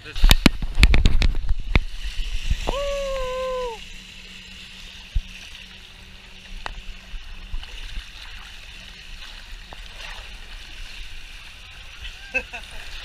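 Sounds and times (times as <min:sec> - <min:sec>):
water rushing down slide tube: 0:00.0 - 0:13.0.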